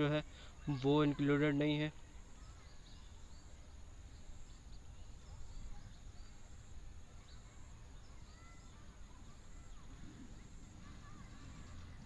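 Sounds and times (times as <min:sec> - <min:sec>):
steady thin high hiss: 0:00.0 - 0:12.0.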